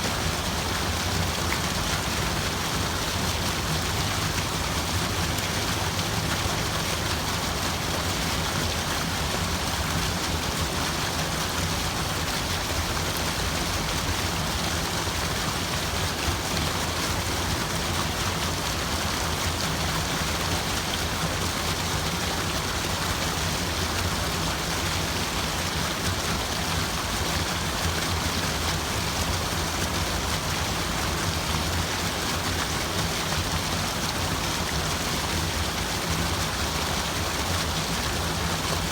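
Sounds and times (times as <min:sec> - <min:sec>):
water running and splashing: 0:00.1 - 0:38.9.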